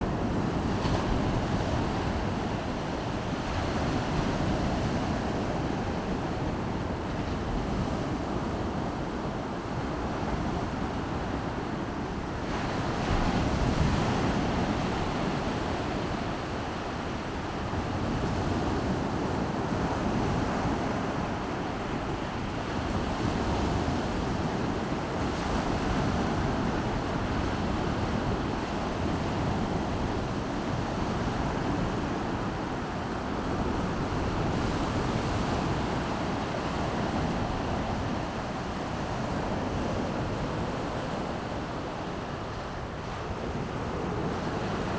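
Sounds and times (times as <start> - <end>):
waves washing onto beach: 0.0 - 44.9.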